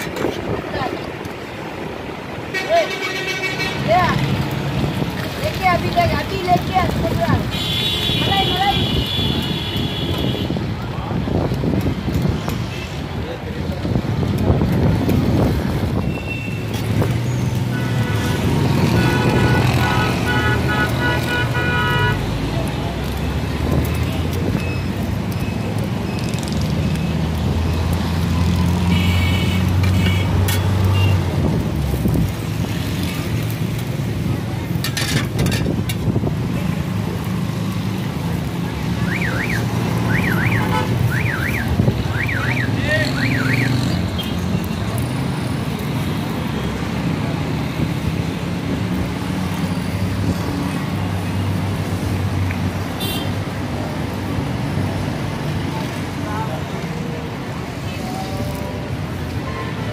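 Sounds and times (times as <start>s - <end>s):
road traffic noise: 0.0s - 59.9s.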